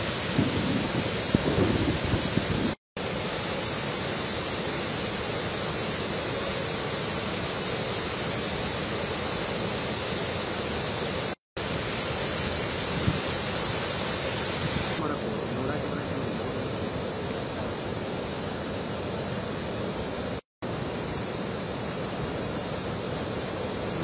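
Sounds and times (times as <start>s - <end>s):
water rushing over waterfall: 0.0s - 24.0s.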